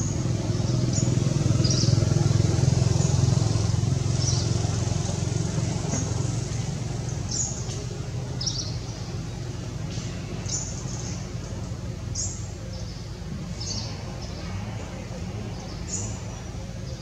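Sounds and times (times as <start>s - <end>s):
distant traffic rumble: 0.0s - 17.0s
small birds chirping: 0.0s - 17.0s.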